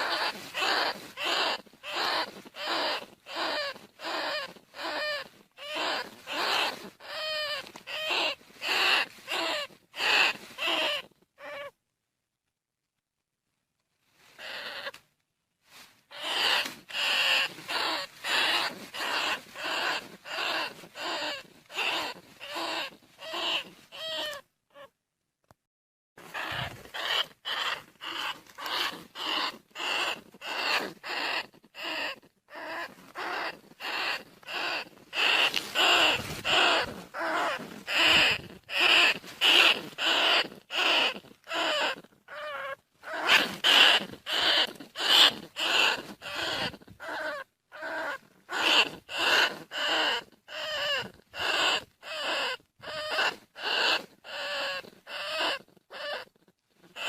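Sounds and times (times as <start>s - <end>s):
rat squeaking: 0.0s - 11.7s, 14.4s - 15.0s, 16.1s - 24.9s, 26.2s - 57.0s.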